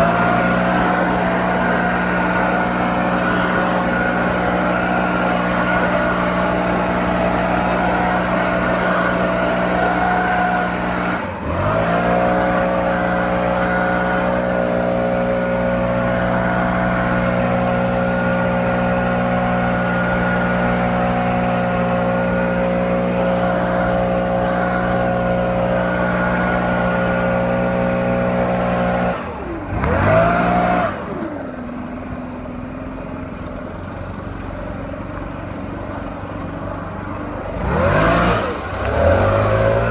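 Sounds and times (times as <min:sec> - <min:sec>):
leaf blower running: 0:00.0 - 0:34.7, 0:35.3 - 0:39.9.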